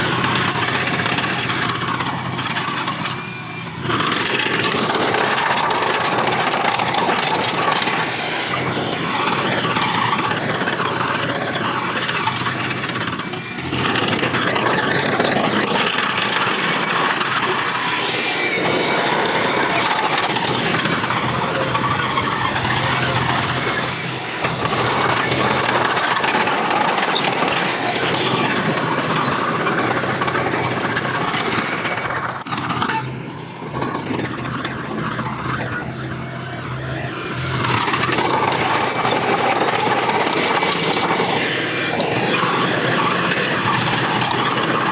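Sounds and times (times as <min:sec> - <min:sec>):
heavy machinery diesel engine: 0:00.0 - 0:44.9.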